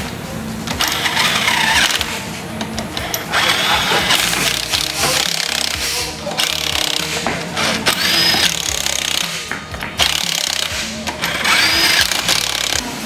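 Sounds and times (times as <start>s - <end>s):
cordless impact wrench running: 0.7s - 2.2s, 2.8s - 13.0s.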